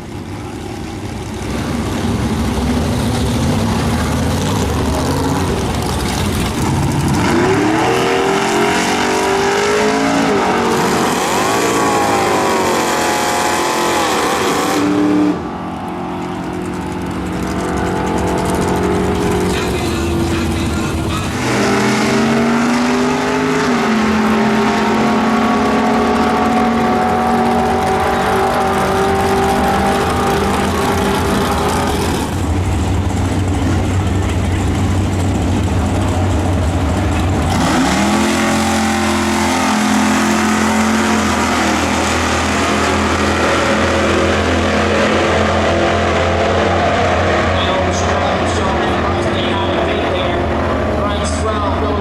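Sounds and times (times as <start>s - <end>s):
racing car engines revving: 0.0s - 52.0s.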